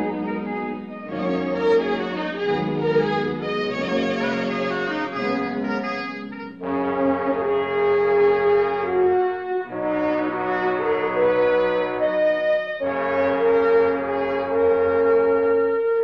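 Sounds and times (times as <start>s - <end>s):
brass film score chords: 0.0s - 16.0s.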